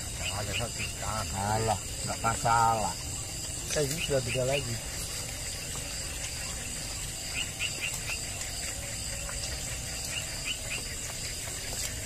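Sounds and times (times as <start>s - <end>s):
insect buzzing: 0.0s - 12.0s
quick insect chirps: 0.0s - 12.0s.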